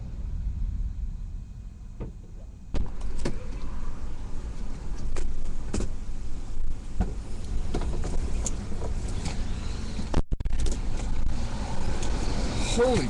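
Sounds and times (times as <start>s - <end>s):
wind buffeting a vehicle: 0.0s - 13.0s.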